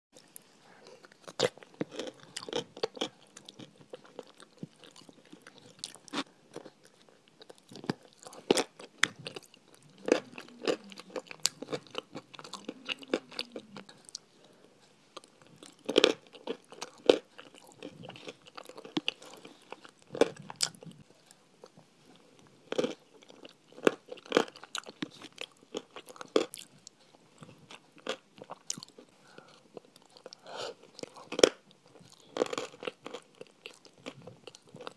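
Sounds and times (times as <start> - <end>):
crunching and chewing: 0.2 - 34.9.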